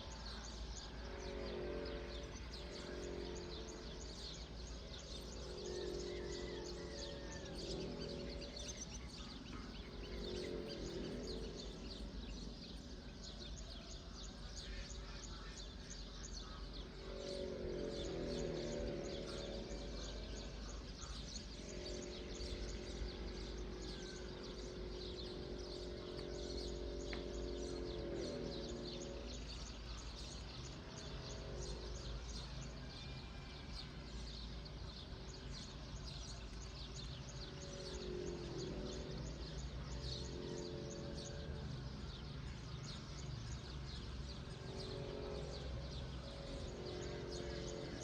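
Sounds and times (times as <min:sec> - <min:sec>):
low steady rumble: 0:00.0 - 0:48.0
small birds chirping: 0:00.0 - 0:48.0
soft sustained chord: 0:00.0 - 0:48.0.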